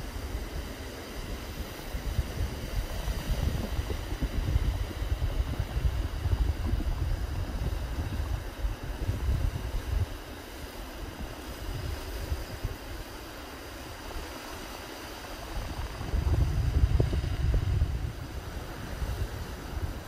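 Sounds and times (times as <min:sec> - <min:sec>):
waves washing over rocky shore: 0:00.0 - 0:20.0
wind buffeting microphone: 0:00.0 - 0:20.0.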